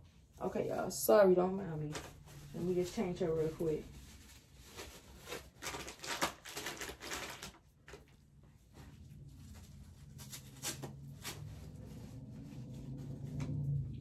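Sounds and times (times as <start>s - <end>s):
rustling and handling noises: 0.0s - 14.0s.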